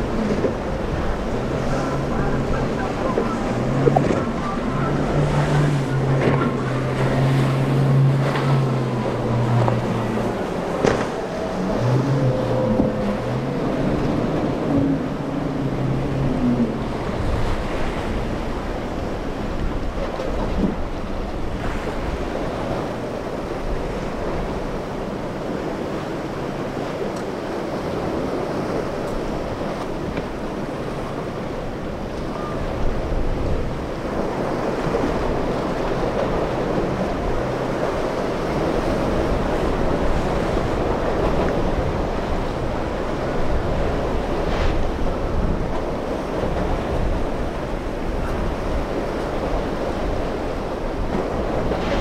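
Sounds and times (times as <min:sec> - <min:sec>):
breaking waves: 0:00.0 - 0:52.0
wind buffeting microphone: 0:00.0 - 0:52.0.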